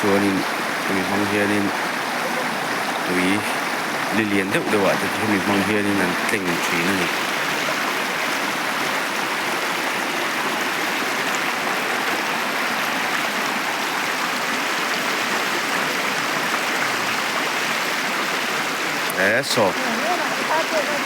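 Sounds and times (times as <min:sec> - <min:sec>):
river water rushing over rapids: 0:00.0 - 0:21.0.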